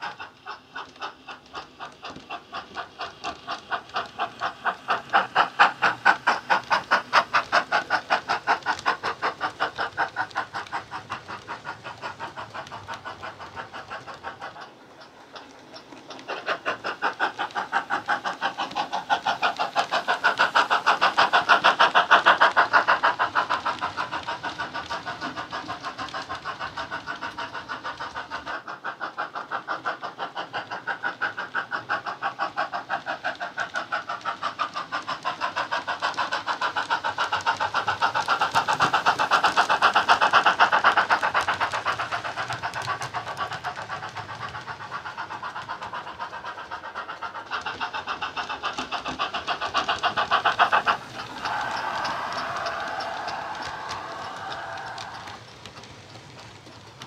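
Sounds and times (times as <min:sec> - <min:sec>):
model steam locomotive chuffing: 0:00.0 - 0:57.0.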